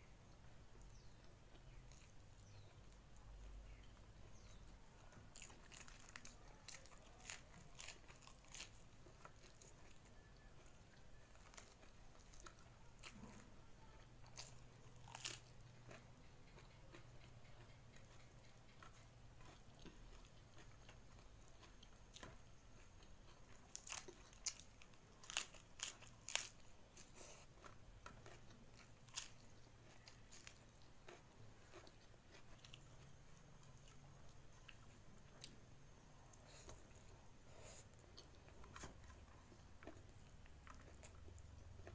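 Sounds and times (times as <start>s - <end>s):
person chewing food: 0.2s - 41.9s.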